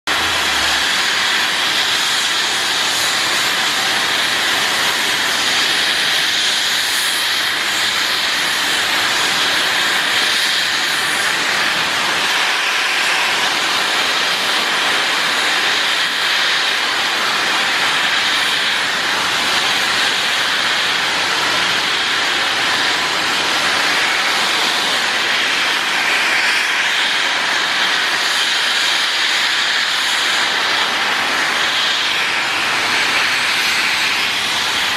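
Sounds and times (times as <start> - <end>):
steam locomotive hissing steam: 0.1 - 34.9.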